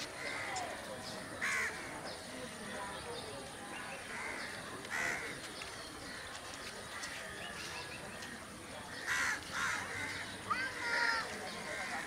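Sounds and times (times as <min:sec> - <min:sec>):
birds calling: 0:00.0 - 0:12.0
steady background noise: 0:00.0 - 0:12.0.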